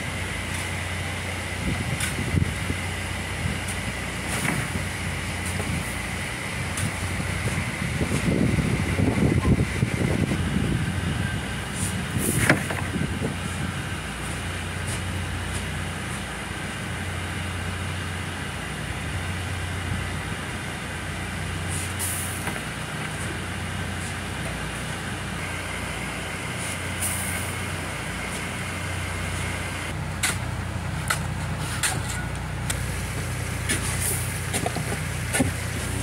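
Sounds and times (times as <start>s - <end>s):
idling machinery hum: 0.0s - 36.0s.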